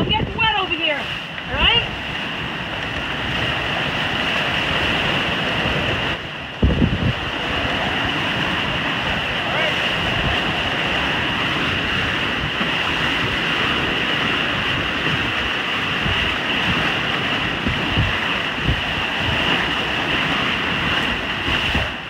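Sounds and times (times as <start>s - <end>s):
waves rushing along boat hull: 0.0s - 22.0s
wind buffeting microphone: 0.0s - 22.0s.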